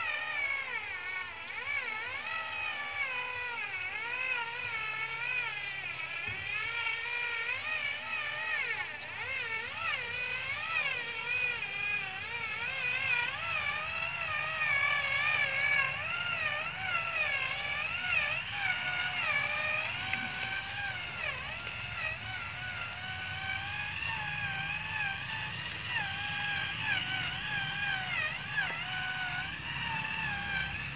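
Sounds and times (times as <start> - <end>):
small electric motor whining: 0.0 - 30.9.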